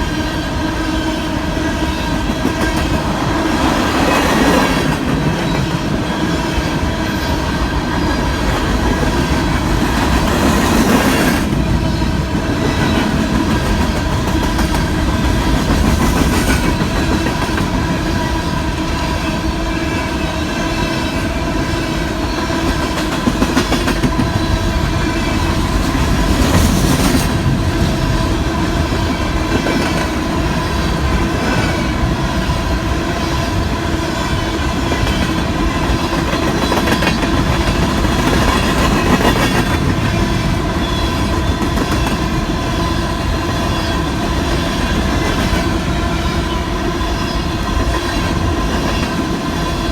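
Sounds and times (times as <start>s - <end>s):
freight train cars rumbling: 0.0s - 49.9s.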